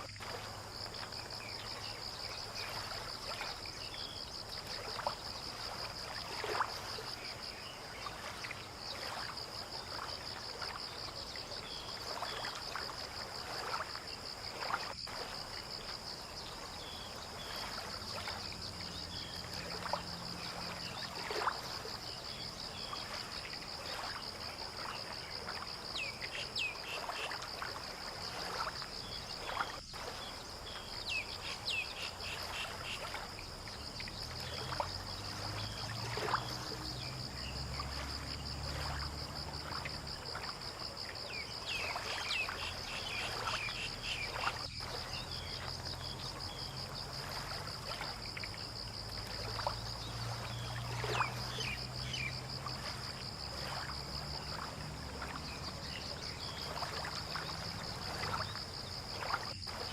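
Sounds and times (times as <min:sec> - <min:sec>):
pulsing insect trill: 0:00.0 - 0:59.9.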